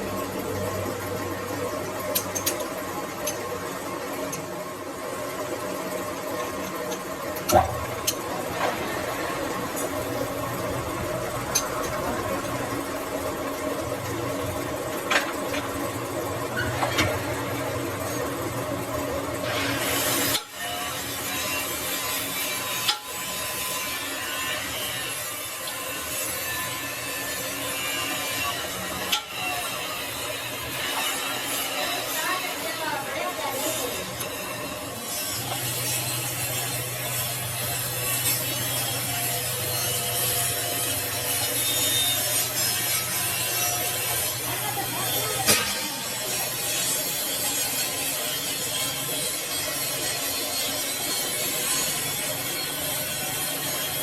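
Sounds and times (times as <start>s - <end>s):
metal lathe running: 0.0s - 54.0s.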